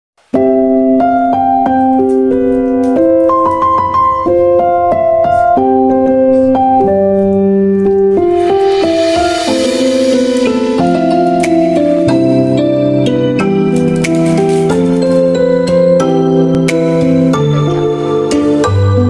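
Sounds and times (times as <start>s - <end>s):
piano melody over chords: 0.3s - 19.0s.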